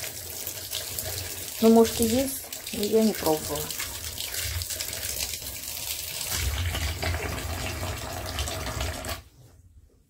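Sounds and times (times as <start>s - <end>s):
tap water pouring into basin: 0.0s - 9.3s.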